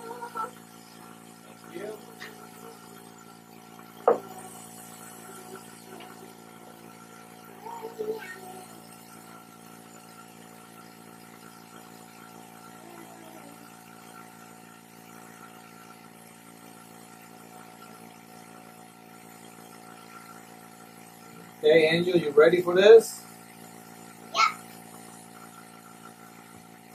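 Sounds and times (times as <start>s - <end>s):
vacuum pump humming: 0.0s - 26.9s.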